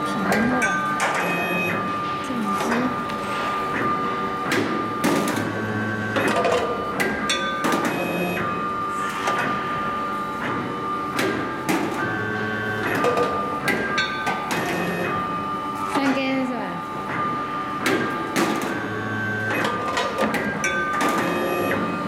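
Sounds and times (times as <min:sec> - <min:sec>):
machine motor whine: 0:00.0 - 0:22.0.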